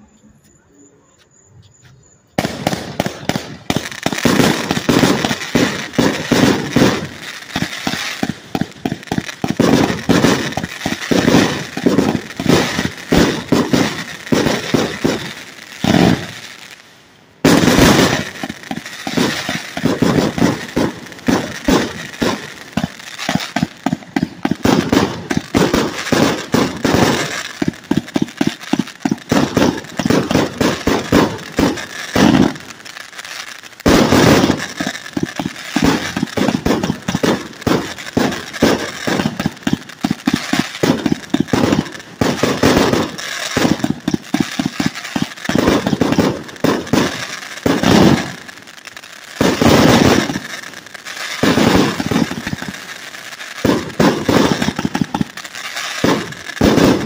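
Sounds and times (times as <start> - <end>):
fireworks shots and crackling: 2.3 - 57.0.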